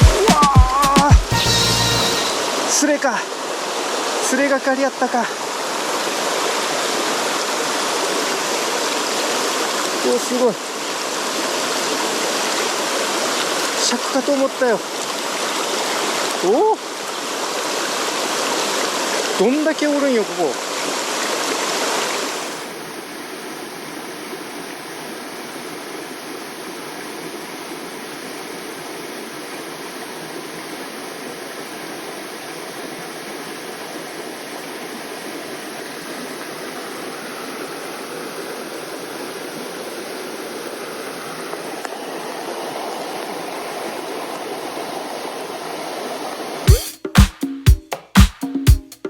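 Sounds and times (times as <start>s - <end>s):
mountain stream rushing: 0.0s - 46.7s.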